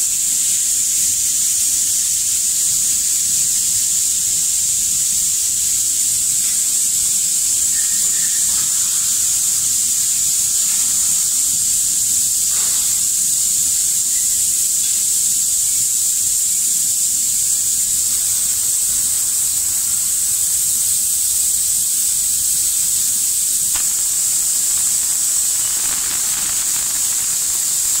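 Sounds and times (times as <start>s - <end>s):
high-pitched air hiss from sprayer: 0.0s - 28.0s.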